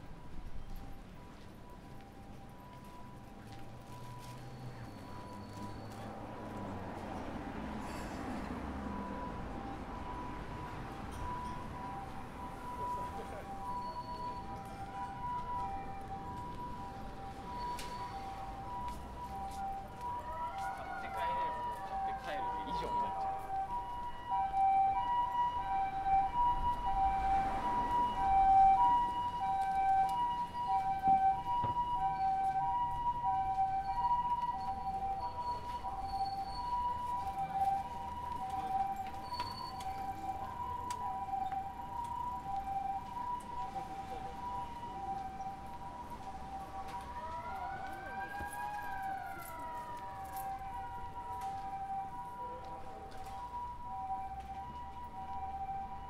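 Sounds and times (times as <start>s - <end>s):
two-tone ambulance siren: 0.0s - 56.0s.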